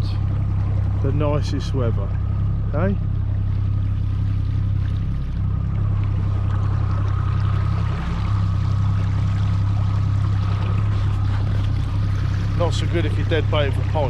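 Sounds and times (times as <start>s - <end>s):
outboard motor running: 0.0s - 14.0s
water rushing along hull: 0.0s - 14.0s.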